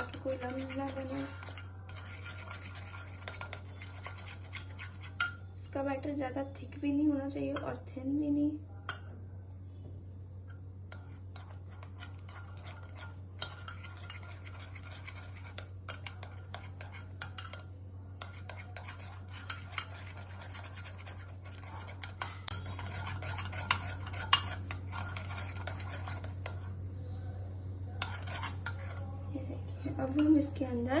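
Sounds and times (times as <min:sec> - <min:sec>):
spoon stirring batter in bowl: 0:00.0 - 0:09.2, 0:09.8 - 0:31.0.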